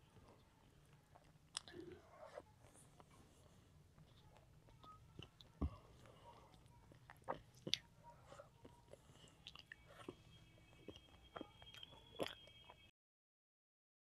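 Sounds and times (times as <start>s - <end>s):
child chewing food: 0.0s - 12.9s.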